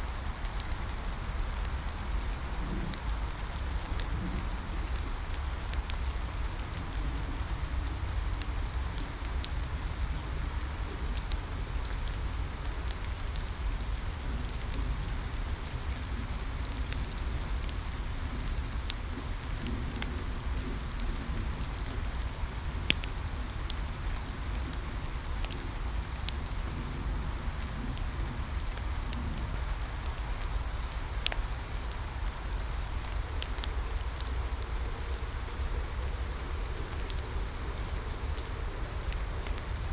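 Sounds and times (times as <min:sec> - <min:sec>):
steady rain falling: 0:00.0 - 0:39.9
bonfire crackling and popping: 0:00.1 - 0:39.9.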